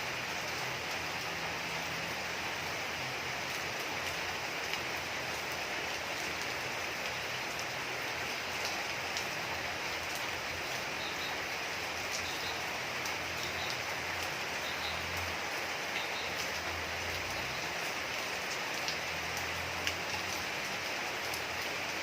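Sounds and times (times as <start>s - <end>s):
rain falling: 0.0s - 22.0s
raindrops ticking: 3.0s - 22.0s.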